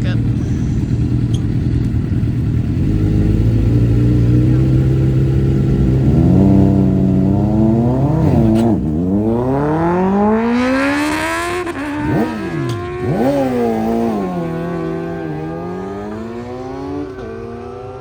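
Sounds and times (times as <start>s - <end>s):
car engine revving and accelerating: 2.7s - 18.0s.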